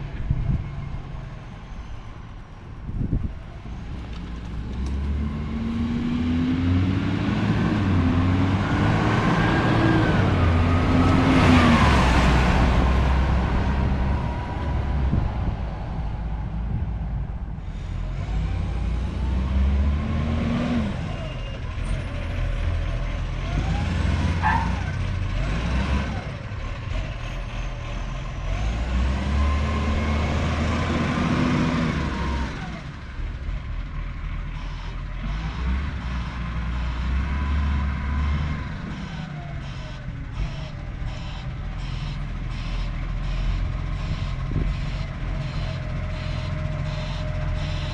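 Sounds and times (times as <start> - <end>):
garbage truck engine revving: 4.5 - 16.2, 18.0 - 47.9.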